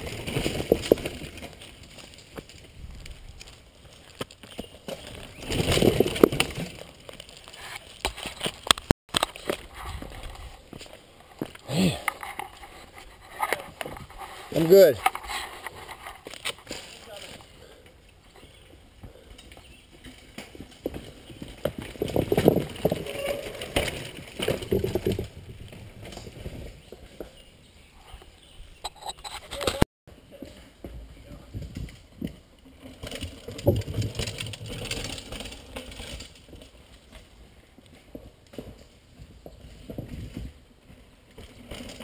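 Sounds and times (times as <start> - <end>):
bike knocking and rattling: 0.0 - 27.4, 28.8 - 42.0
bike tyres rolling on trail: 0.0 - 42.0.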